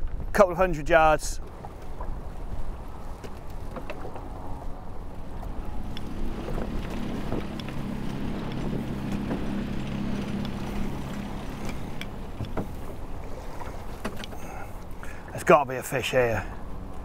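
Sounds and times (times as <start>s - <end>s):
choppy water against boat hull: 0.0s - 17.0s
low steady hum: 0.0s - 17.0s
wind: 0.0s - 17.0s.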